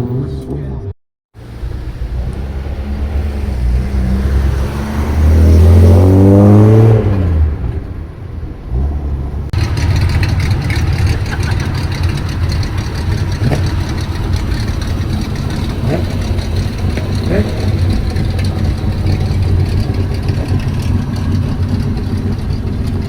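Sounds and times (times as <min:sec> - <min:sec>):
car engine revving and idling: 0:01.4 - 0:23.0.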